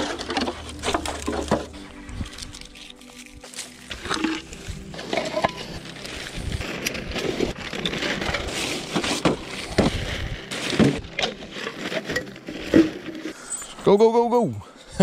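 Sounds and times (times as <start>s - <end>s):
plastic bag rustling and crinkling: 0.0s - 13.8s.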